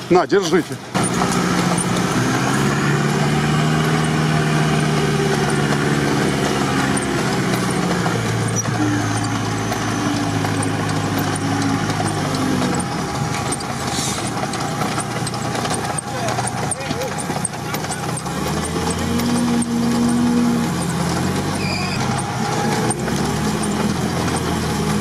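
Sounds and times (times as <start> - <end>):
engine heard from inside cabin: 0.0 - 25.0.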